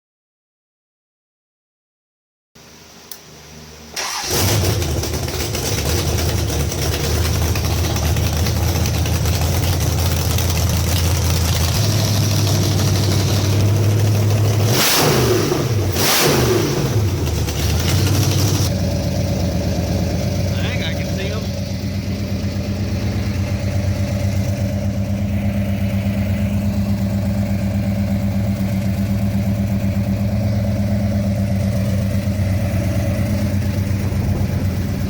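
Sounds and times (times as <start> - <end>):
car engine starting and running: 2.6 - 35.0
engine throttle blips: 2.6 - 35.0.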